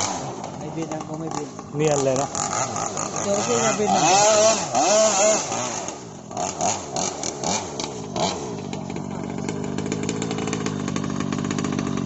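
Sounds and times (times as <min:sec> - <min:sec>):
small boat engine droning: 0:00.0 - 0:12.0.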